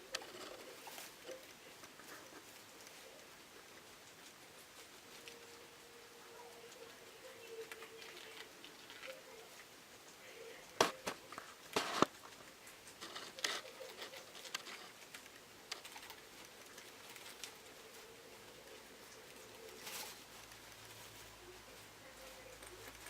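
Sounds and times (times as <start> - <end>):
faint steady hum: 0.0 - 23.0
guinea pigs rustling and pattering: 0.0 - 23.0.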